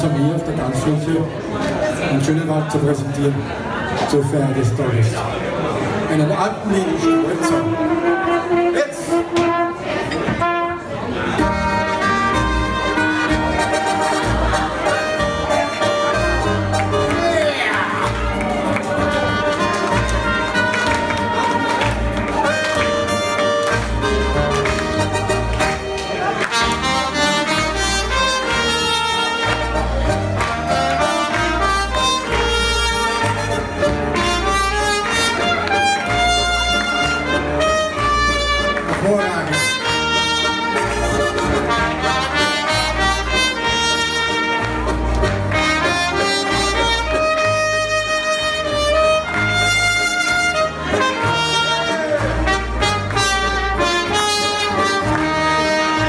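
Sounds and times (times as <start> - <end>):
keyboard accompaniment: 6.2 - 56.0
saxophone: 6.9 - 56.0
trumpets: 6.9 - 56.0
bass line: 7.0 - 56.0.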